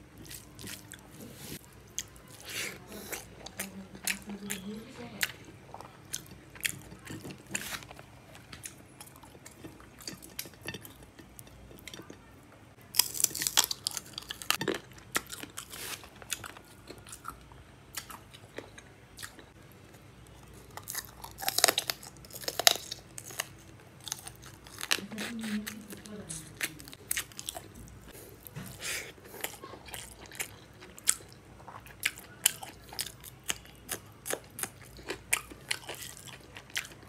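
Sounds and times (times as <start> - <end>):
chewing and crunching shell: 0.0 - 37.0.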